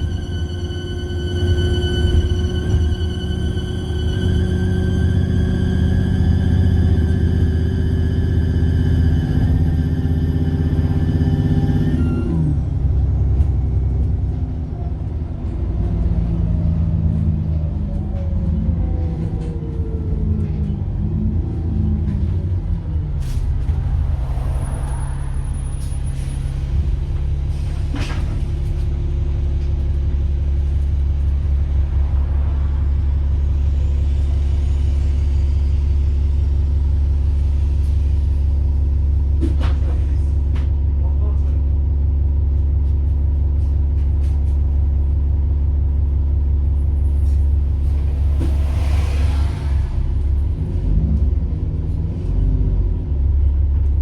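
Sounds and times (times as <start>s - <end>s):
diesel bus engine with turbo whine: 0.0s - 54.0s.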